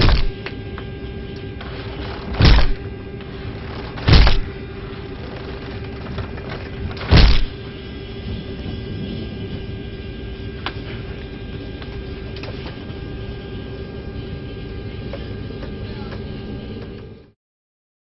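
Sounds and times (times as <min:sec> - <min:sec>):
airliner cabin rumble and hiss: 0:00.0 - 0:17.4.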